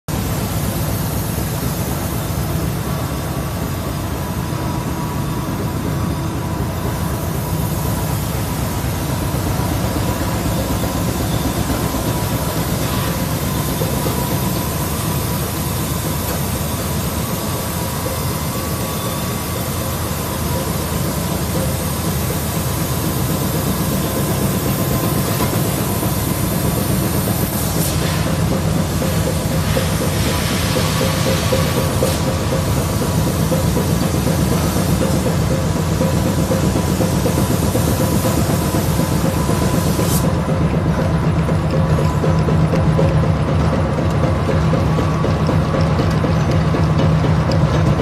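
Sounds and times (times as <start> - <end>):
faint machine whine: 0.1 - 48.0
heavy mechanical drone: 0.1 - 48.0.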